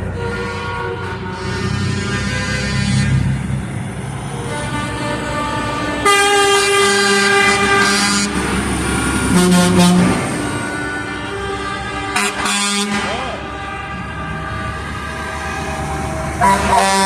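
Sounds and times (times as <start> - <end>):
truck air horn blasts: 0.0 - 3.5, 4.4 - 8.6, 9.3 - 17.0
truck engines idling: 0.0 - 17.0.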